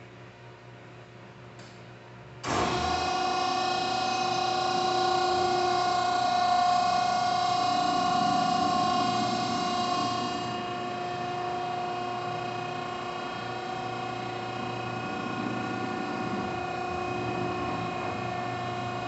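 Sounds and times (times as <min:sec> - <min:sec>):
hydraulic pump motor whine: 0:02.4 - 0:19.0.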